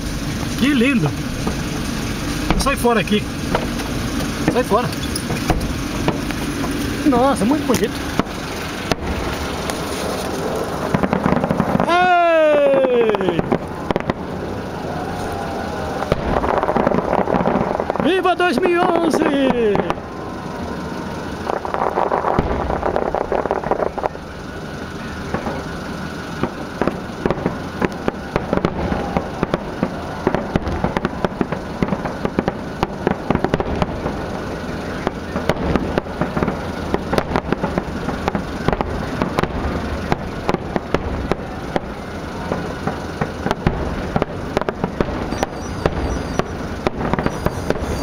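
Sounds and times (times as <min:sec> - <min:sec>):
firework shells bursting: 0:00.0 - 0:48.0.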